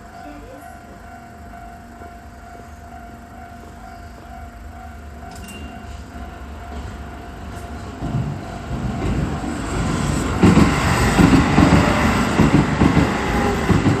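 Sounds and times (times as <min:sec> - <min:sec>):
level-crossing alarm ringing: 0:00.0 - 0:14.0
train rumble: 0:00.0 - 0:14.0.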